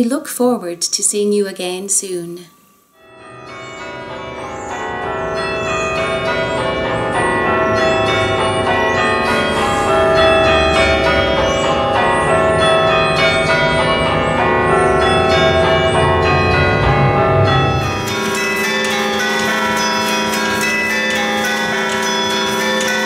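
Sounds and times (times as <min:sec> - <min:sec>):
tower bells ringing: 0:03.0 - 0:23.0.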